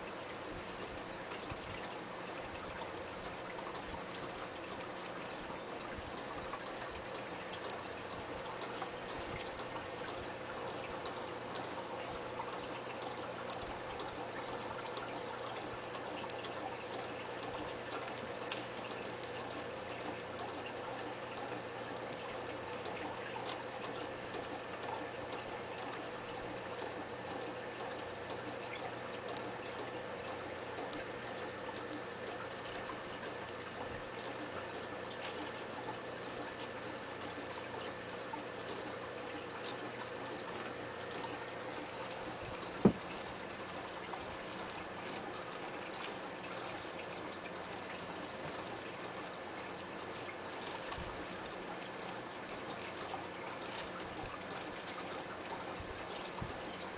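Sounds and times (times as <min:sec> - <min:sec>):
aquarium water bubbling: 0:00.0 - 0:56.9
faint steady hum: 0:00.0 - 0:56.9.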